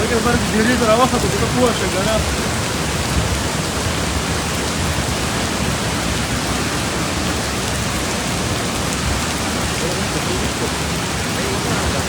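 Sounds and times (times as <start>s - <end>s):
loud rush of flood water: 0.0s - 12.0s.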